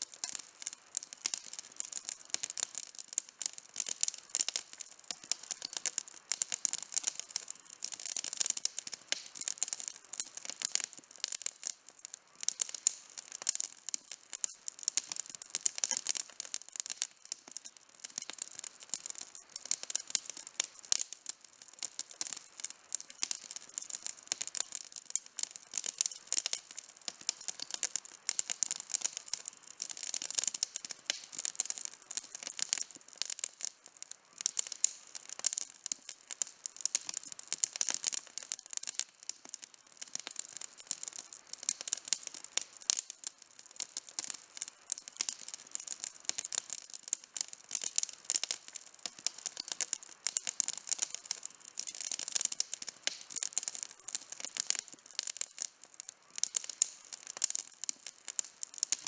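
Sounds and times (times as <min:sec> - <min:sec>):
campfire wood crackling: 0:00.0 - 0:59.0.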